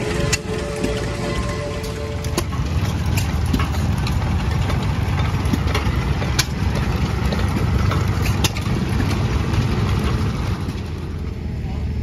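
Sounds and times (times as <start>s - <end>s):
flywheel gas engines running: 0.0s - 12.0s.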